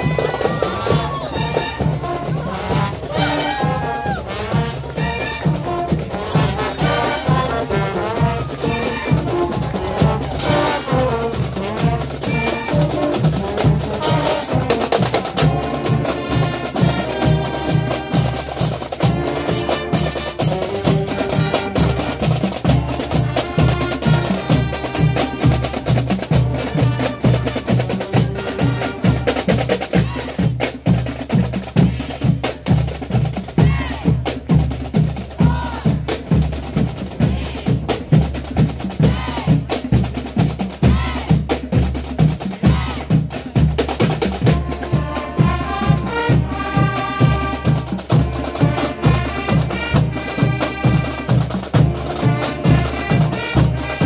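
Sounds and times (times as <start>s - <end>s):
drumline cadence: 0.0s - 54.0s
marching band playing: 0.0s - 54.0s.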